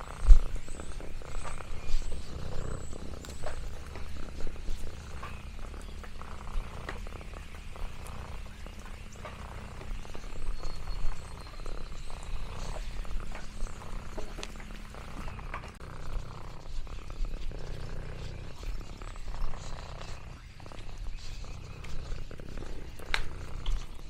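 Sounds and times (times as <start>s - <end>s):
cat purring: 0.0s - 24.0s
small clicks and rustles: 0.0s - 24.0s.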